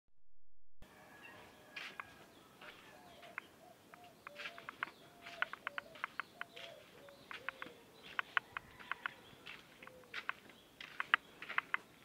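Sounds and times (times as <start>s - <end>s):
birds chirping: 1.2s - 12.0s.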